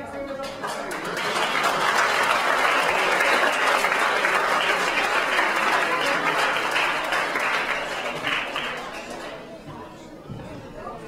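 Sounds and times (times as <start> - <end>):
audience applauding: 0.4 - 9.5.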